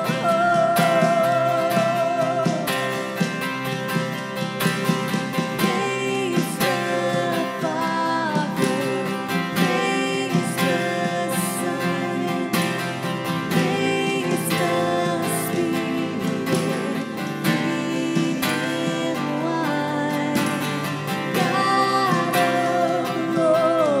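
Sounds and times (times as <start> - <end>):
man singing along: 0.0 - 3.1, 5.5 - 24.0
woman singing: 0.0 - 3.5, 5.1 - 24.0
acoustic guitar strumming: 0.0 - 24.0.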